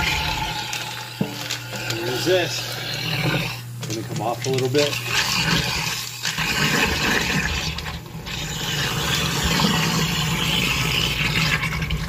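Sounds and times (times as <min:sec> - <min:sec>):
garbage disposal humming: 0:00.0 - 0:12.0.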